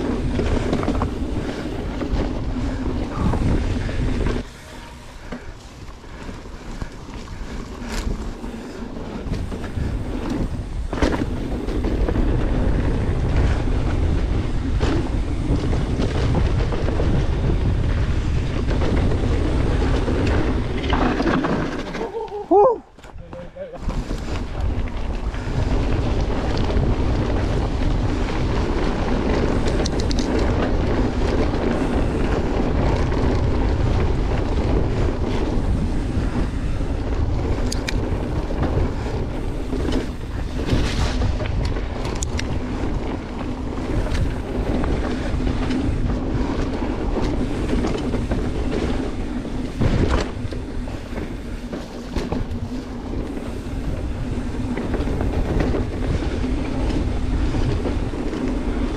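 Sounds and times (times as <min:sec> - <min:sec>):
tyres rumbling on dirt trail: 0:00.0 - 0:58.9
wind buffeting microphone: 0:00.0 - 0:58.9.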